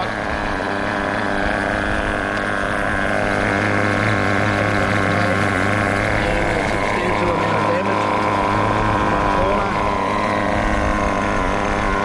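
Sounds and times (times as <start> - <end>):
small engine idling buzz: 0.0 - 12.0.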